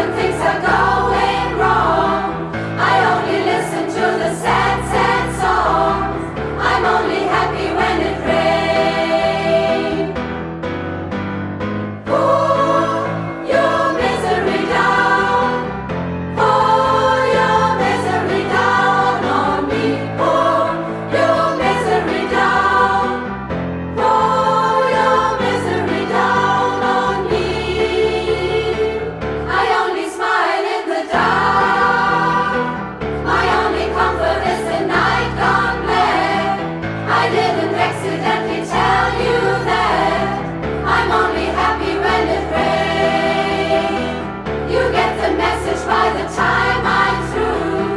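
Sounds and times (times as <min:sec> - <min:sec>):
women's choir singing: 0:00.0 - 0:10.4, 0:12.0 - 0:47.9.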